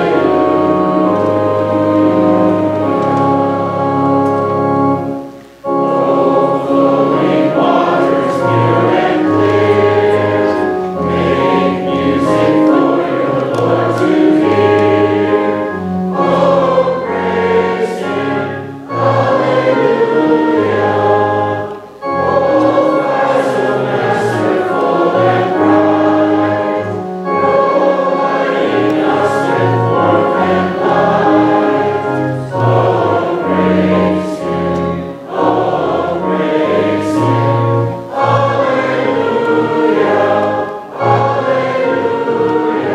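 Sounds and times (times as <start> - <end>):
congregation singing a hymn: 0.0 - 42.9
organ accompaniment: 0.0 - 42.9.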